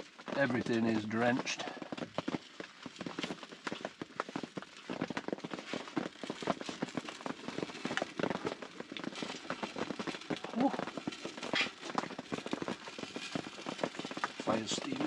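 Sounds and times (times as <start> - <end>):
fire crackling with sharp pops: 0.0 - 15.0.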